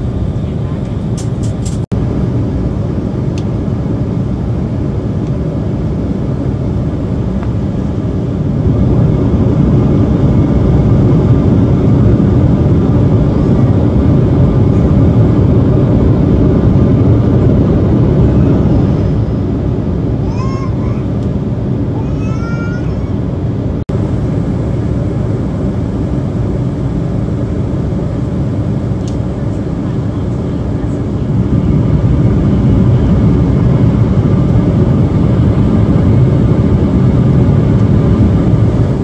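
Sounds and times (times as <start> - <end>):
jet cabin drone: 0.0 - 39.0.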